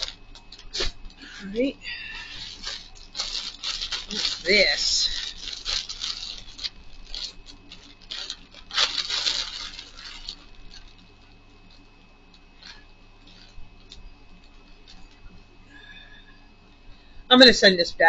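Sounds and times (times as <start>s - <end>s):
plastic bag crinkling: 0.0s - 15.6s.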